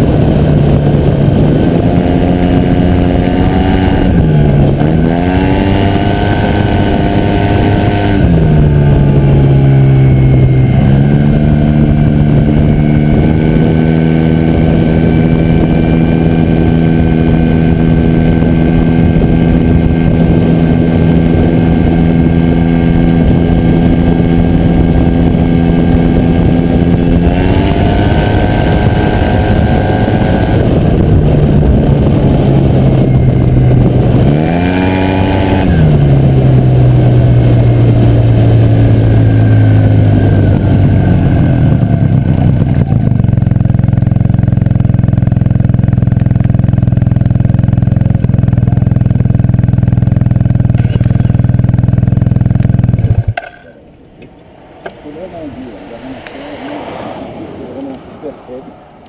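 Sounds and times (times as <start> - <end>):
motorcycle engine under way: 0.0 - 57.0.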